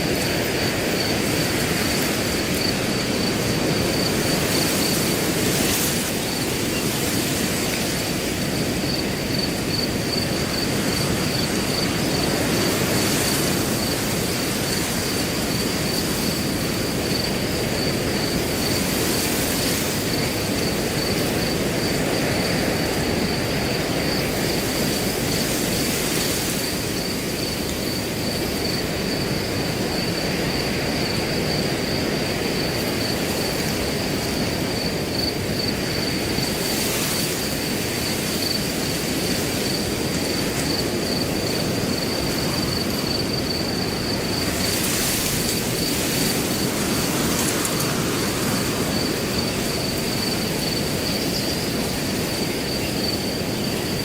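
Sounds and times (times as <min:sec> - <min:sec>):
cricket trilling: 0:00.0 - 0:54.0
wind rustling through grass: 0:00.0 - 0:54.0.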